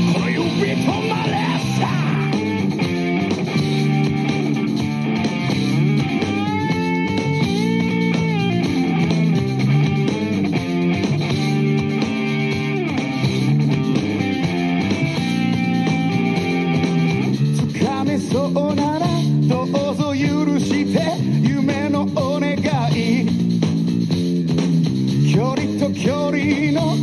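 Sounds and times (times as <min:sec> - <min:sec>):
pop-rock guitar instrumental: 0:00.0 - 0:27.0.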